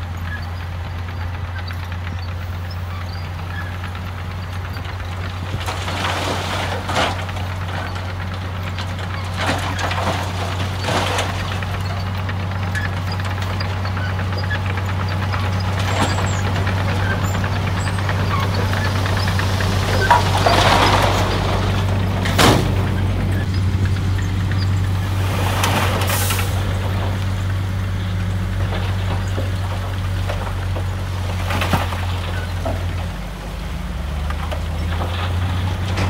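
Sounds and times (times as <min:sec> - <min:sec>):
diesel truck engine running: 0:00.0 - 0:36.0
rock and dirt sliding out: 0:05.3 - 0:36.0.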